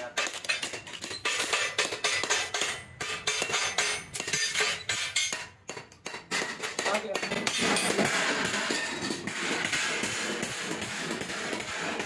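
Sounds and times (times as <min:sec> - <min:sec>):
metal scraps rattling: 0:00.0 - 0:09.7
shears snipping sheet metal: 0:00.0 - 0:12.0.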